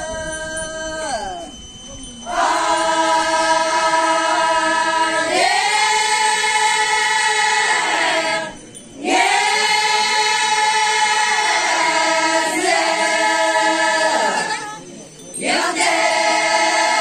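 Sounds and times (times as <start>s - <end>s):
women singing together: 2.3s - 14.8s, 15.4s - 17.0s.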